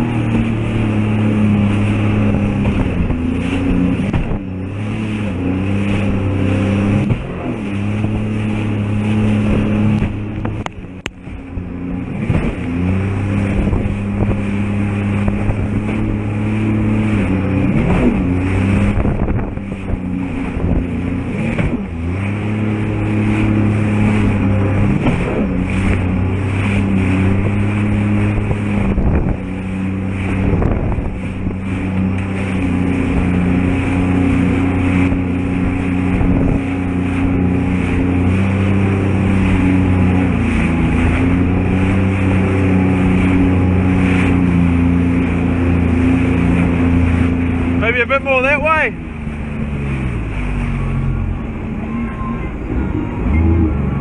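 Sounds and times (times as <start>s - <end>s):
hull slapping water: 0.0s - 54.0s
jet ski engine revving: 0.0s - 54.0s.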